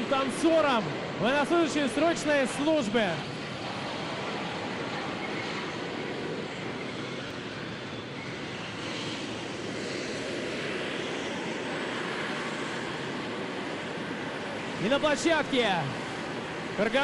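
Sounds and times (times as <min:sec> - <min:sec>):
tank turbine engines rushing: 0:00.0 - 0:17.0.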